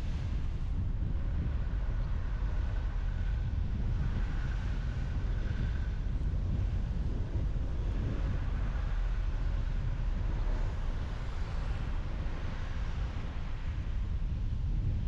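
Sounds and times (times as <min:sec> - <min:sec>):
tyre and wind rumble: 0:00.0 - 0:15.0.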